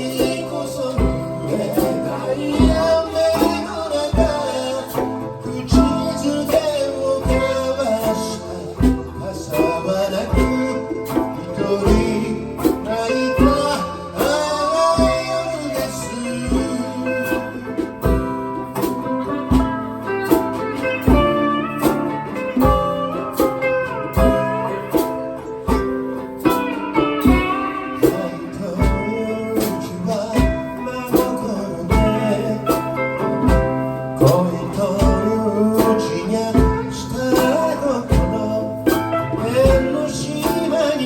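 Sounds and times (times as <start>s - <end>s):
drum beat: 0.0s - 40.9s
electric guitar: 0.0s - 41.0s
live blues band playing: 0.0s - 41.0s.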